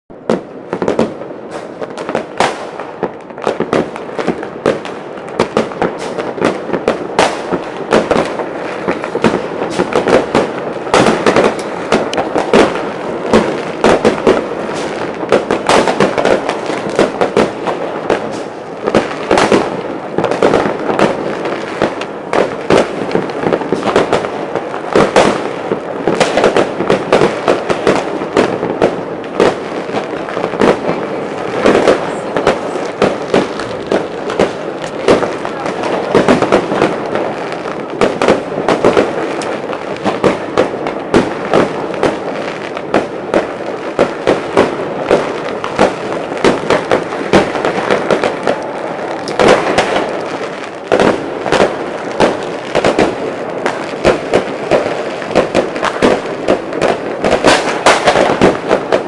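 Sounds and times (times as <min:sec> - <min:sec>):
fireworks bangs and crackles: 0:00.1 - 0:59.0.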